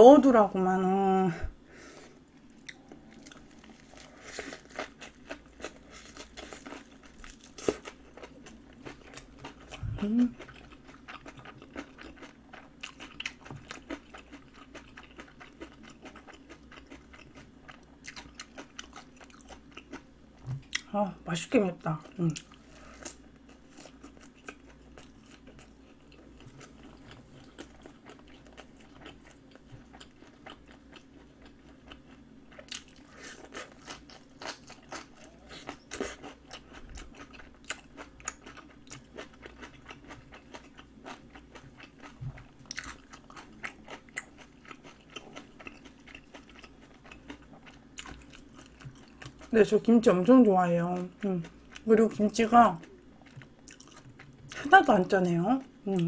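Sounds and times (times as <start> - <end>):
chewing and crunching cabbage: 2.3 - 20.9, 21.8 - 56.0.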